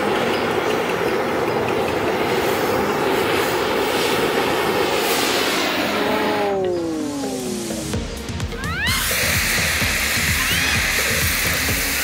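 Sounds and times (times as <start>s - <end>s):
gas torch flame hissing: 1.8s - 12.0s.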